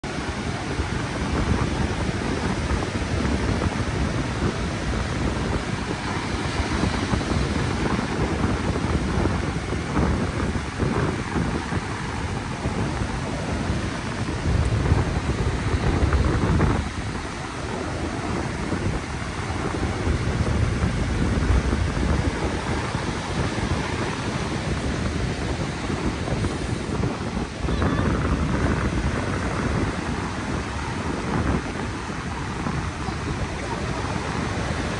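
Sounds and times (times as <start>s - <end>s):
rough sea surf breaking: 0.0s - 34.9s
wind buffeting microphone: 0.0s - 34.9s.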